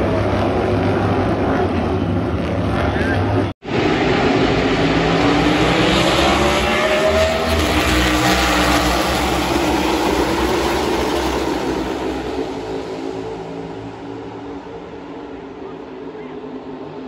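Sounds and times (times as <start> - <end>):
race car engines at speed: 0.0 - 17.0.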